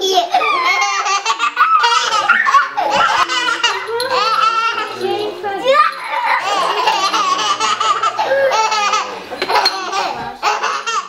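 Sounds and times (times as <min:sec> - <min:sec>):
children laughing: 0:00.0 - 0:11.0.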